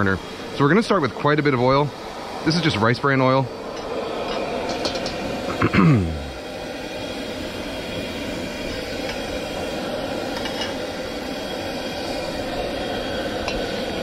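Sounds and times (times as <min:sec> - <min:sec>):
gas burner rushing: 0:00.0 - 0:14.0.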